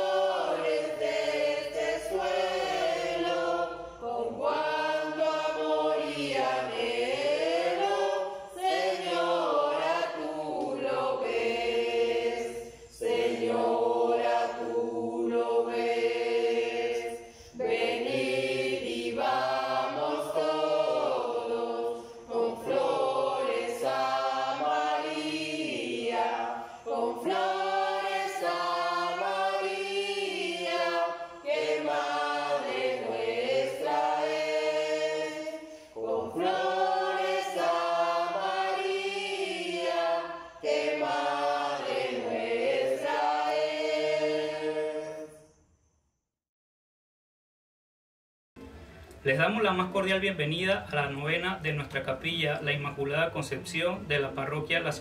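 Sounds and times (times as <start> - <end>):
choir singing a hymn: 0.0 - 45.6.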